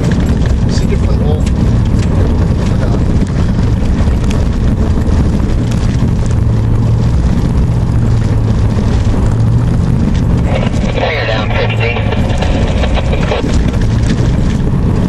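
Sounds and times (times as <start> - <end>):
low road rumble: 0.0 - 15.0
truck engine drone: 0.0 - 15.0.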